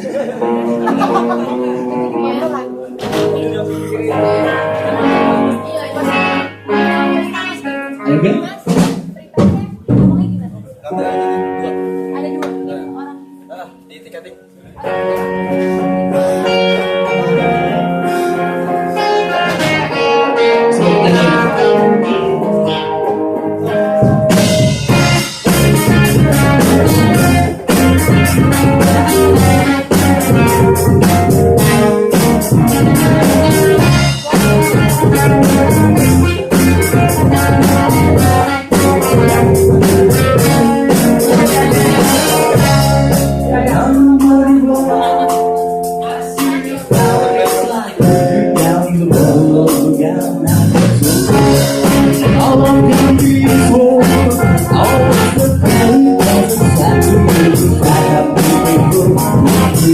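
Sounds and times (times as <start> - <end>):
electric guitar playing: 0.0 - 8.9, 9.8 - 59.9
bass guitar: 0.0 - 13.4, 14.6 - 59.9
drum kit beat: 0.0 - 13.9, 14.7 - 59.9.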